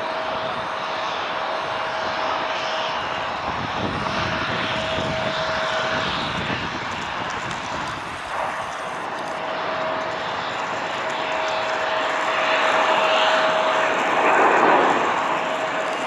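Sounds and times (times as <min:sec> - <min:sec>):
jet engine noise: 0:00.0 - 0:16.0
jet engine whine: 0:00.0 - 0:16.0.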